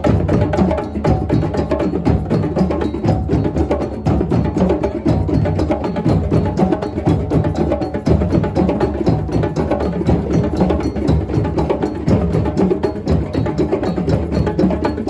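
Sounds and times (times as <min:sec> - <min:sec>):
percussion music: 0:00.0 - 0:15.0.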